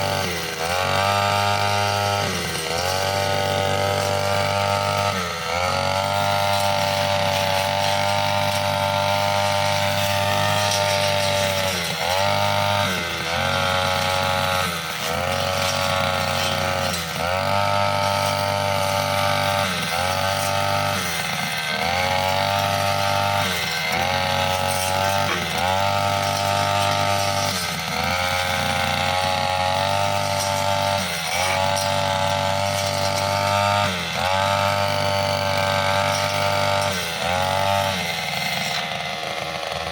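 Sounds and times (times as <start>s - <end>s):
blade cutting grass and stems: 0.0s - 39.9s
brushcutter engine at high revs: 0.0s - 39.9s.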